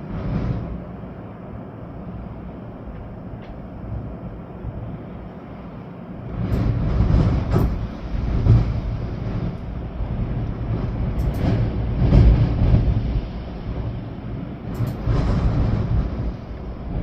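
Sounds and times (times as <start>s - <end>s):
rain: 0.0s - 17.0s
storm wind gusting: 0.0s - 17.0s
wind buffeting microphone: 0.0s - 17.0s.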